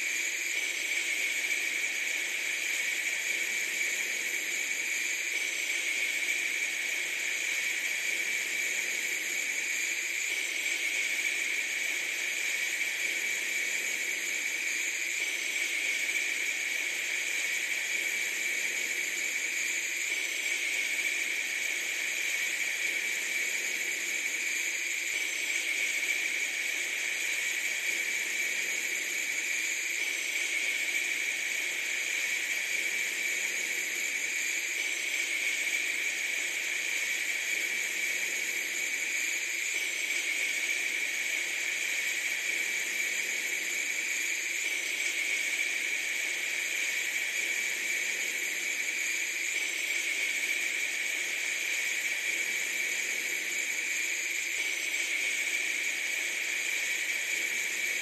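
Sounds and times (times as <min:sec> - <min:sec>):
steady hissing noise: 0:00.0 - 0:58.0.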